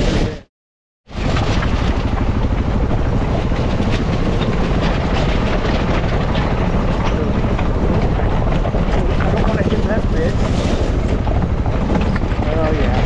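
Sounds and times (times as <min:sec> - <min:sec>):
motorcycle engine running: 0:01.1 - 0:13.0
rattles and knocks over rocks: 0:01.1 - 0:13.0.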